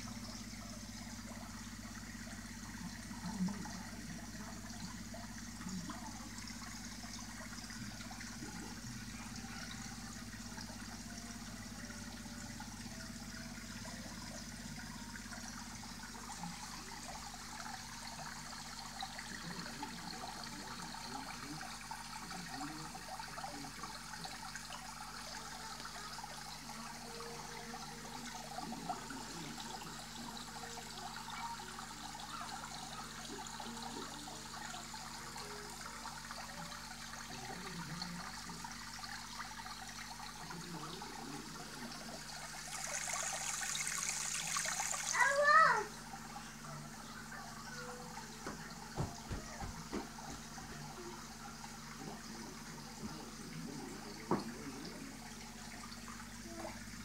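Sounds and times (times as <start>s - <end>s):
aquarium water bubbling: 0.0s - 57.0s
low pump hum: 0.0s - 57.0s.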